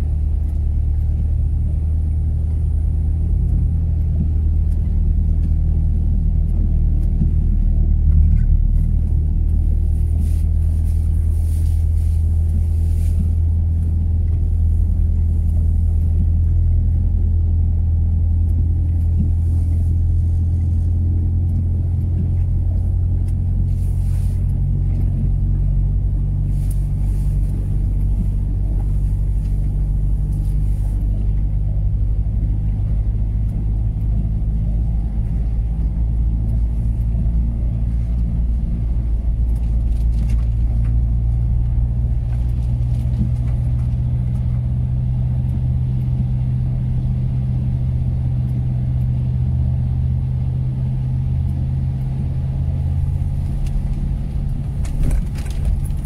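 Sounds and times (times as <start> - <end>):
diesel car engine droning: 0.0 - 56.0
tyres on wet road: 0.0 - 56.0
water splashing against car: 0.0 - 56.0.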